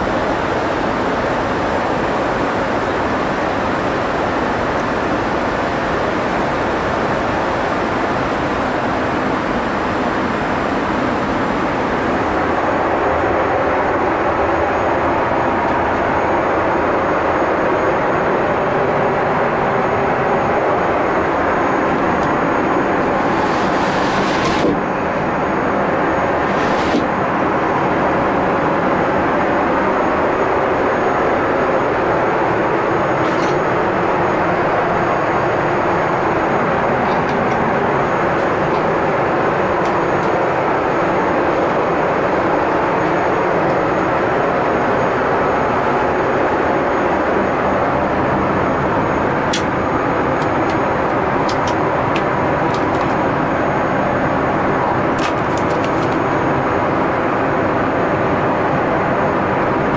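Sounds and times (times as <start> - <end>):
airplane cabin rushing noise: 0.0 - 59.9.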